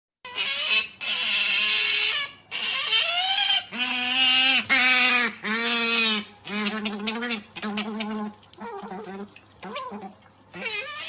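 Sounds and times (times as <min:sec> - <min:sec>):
otter squealing calls: 0:00.3 - 0:11.0.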